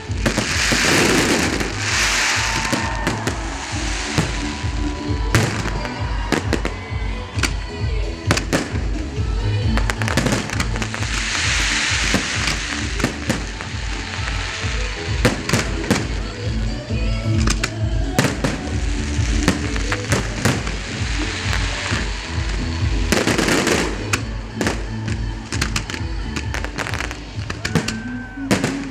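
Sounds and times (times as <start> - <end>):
fireworks bangs: 0.0 - 28.9
fireworks crackling: 0.0 - 28.9
loud music with bass beat: 0.0 - 28.9.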